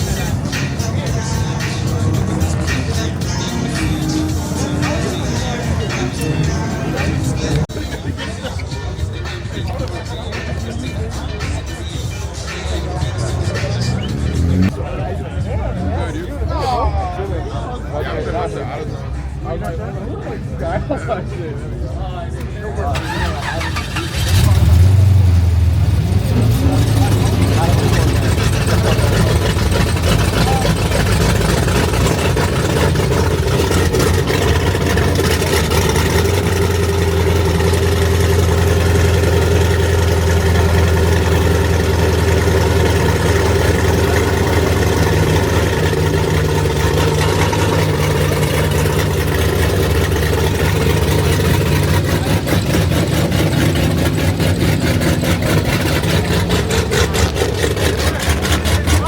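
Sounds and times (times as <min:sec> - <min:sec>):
car engine running: 0:00.0 - 0:16.6, 0:22.9 - 0:59.0.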